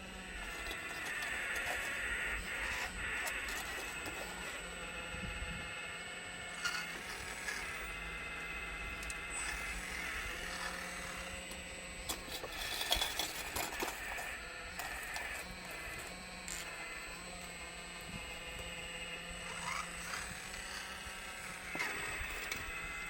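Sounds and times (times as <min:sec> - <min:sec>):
model excavator motors whining: 0:00.0 - 0:23.0.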